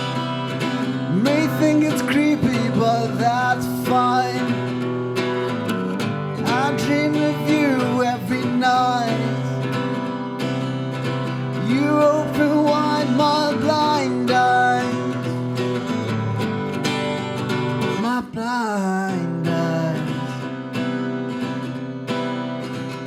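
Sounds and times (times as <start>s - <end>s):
man singing: 0.0s - 5.6s, 6.3s - 16.6s, 17.8s - 20.6s
acoustic guitar strumming: 0.0s - 23.0s.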